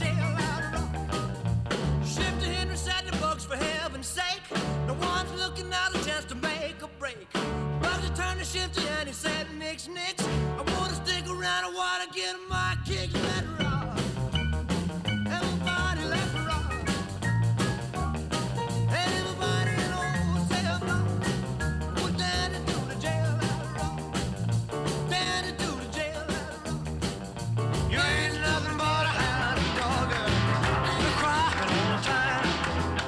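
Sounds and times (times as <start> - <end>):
upbeat rock and roll music: 0.0 - 33.0.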